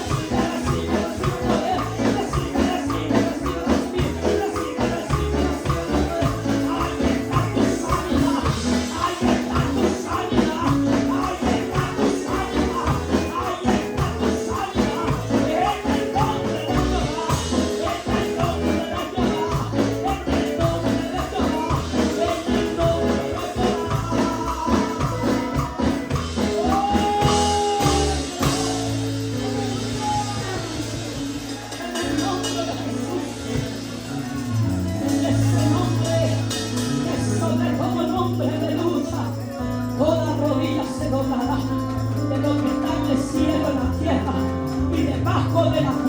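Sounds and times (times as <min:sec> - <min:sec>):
people singing: 0:00.0 - 0:39.4, 0:42.2 - 0:46.0
live band playing worship music: 0:00.0 - 0:46.0
tambourine shaking: 0:00.0 - 0:46.0.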